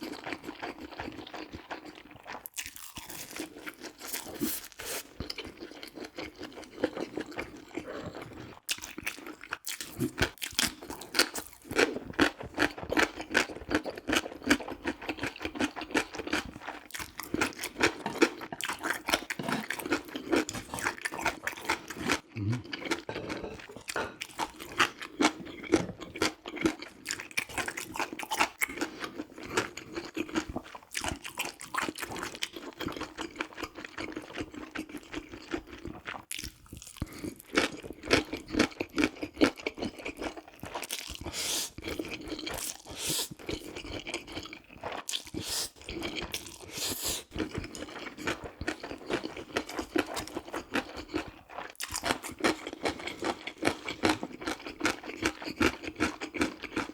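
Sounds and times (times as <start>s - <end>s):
person chewing and eating: 0.0s - 56.9s.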